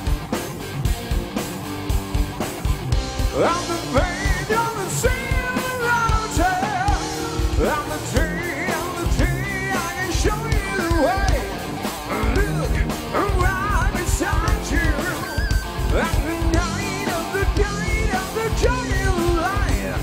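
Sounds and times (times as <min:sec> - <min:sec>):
bass guitar: 0:00.0 - 0:20.0
drum kit: 0:00.0 - 0:20.0
electric guitar: 0:00.0 - 0:20.0
man singing with vibrato: 0:03.2 - 0:20.0.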